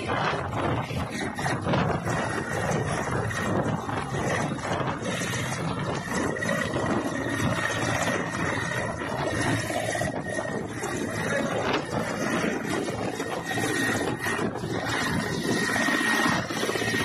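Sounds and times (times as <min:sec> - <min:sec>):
helicopter rotor and engine: 0:00.0 - 0:17.0
high turbine whine: 0:00.0 - 0:17.0.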